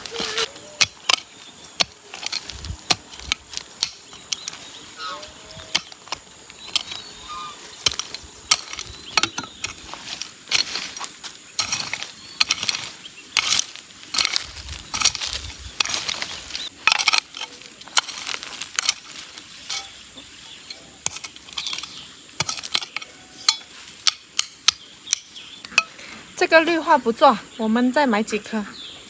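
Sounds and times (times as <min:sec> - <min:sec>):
digging tool scraping soil: 0:00.0 - 0:25.9
blade clinking on stones: 0:00.0 - 0:26.0.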